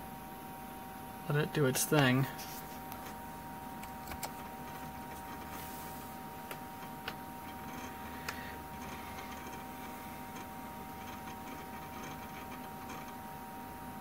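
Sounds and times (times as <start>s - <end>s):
computer machine hum: 0.0s - 14.0s.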